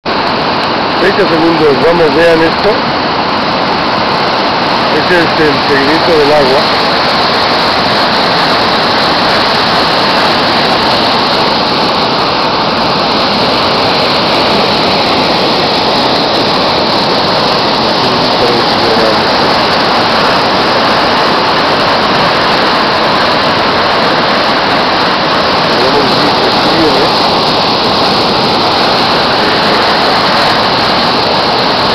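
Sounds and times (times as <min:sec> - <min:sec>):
river rushing: 0:00.1 - 0:31.9.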